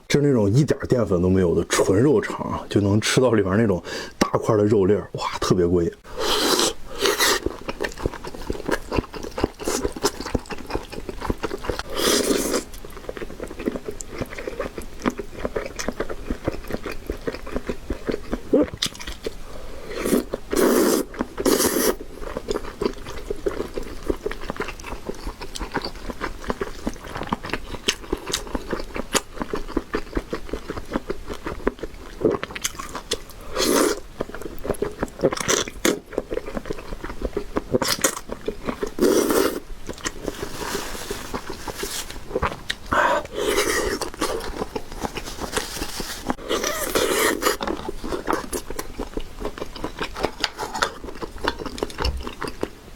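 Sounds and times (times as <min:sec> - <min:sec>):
wet chewing and biting: 0:06.2 - 0:52.8.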